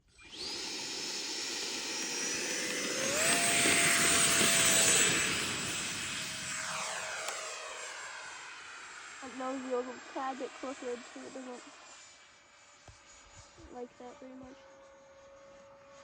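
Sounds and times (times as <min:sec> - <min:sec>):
electric fan motor whining: 0:00.0 - 0:16.0.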